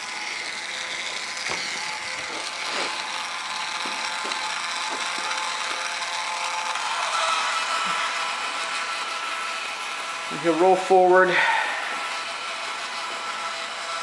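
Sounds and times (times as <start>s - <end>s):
electric gear motors whirring: 0.0s - 14.0s.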